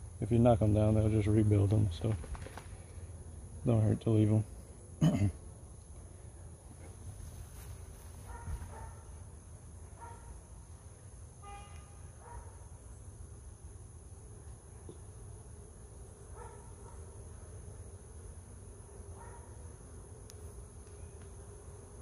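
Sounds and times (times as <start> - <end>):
honeybees humming: 2.6 - 22.0.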